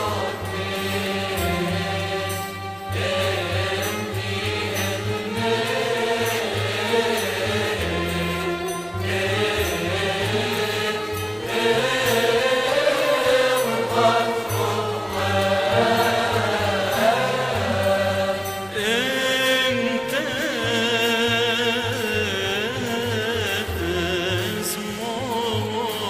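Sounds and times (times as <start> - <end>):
voices chanting a hymn: 0.0 - 26.0.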